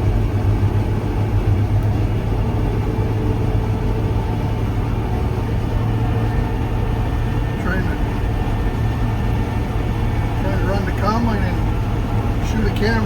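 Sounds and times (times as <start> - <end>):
combine harvester engine drone: 0.0 - 13.0.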